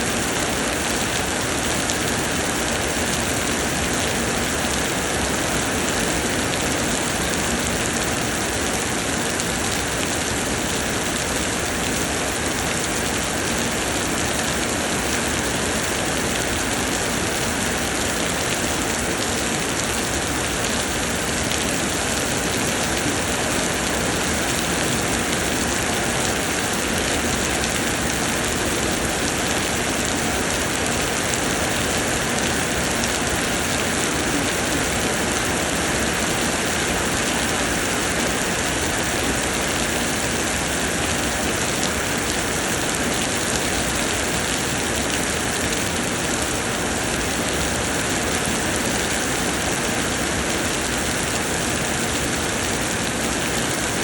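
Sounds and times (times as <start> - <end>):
rain pouring: 0.0 - 54.0.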